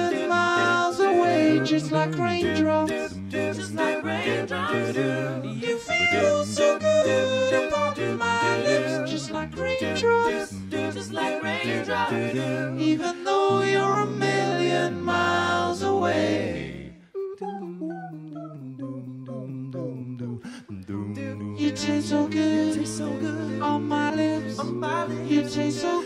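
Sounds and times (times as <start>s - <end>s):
people singing: 0.0s - 26.0s.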